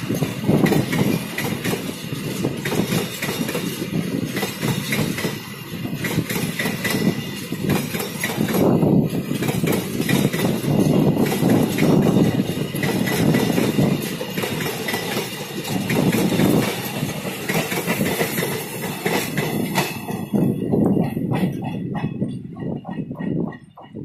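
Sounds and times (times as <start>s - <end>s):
freight train wheels rumbling: 0.0s - 24.0s
wheels clicking and rattling: 0.0s - 24.0s.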